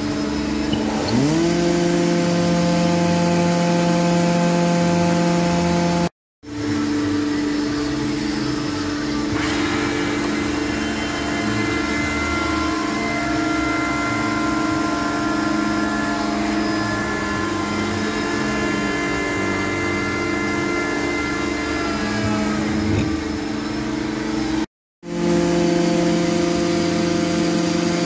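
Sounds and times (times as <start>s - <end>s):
woodworking machine motor humming: 0.0s - 28.0s.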